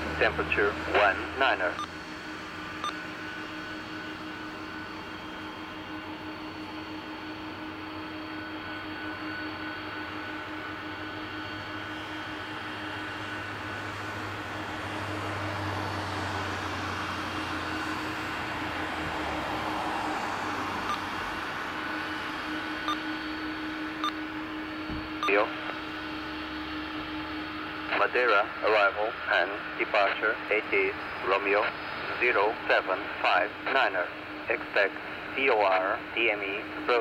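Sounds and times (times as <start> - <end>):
jet engines rushing: 0.0 - 37.0
steady hum: 0.0 - 37.0.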